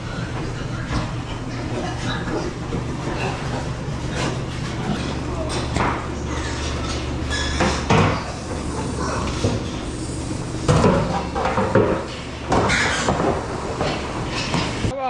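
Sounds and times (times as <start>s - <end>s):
steady low hum: 0.0s - 15.0s
metal gates clanking and rattling: 0.3s - 14.9s.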